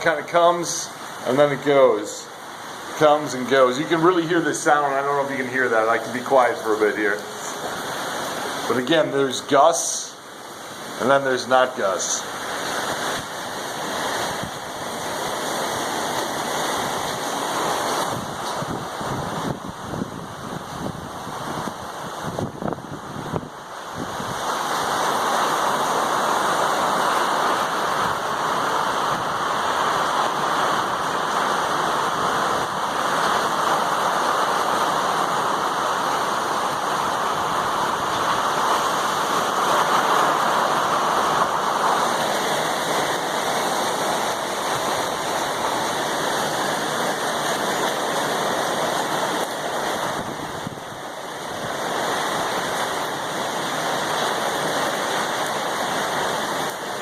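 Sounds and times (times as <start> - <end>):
gusting wind: 0.0 - 57.0
heavy rain pouring: 0.0 - 57.0.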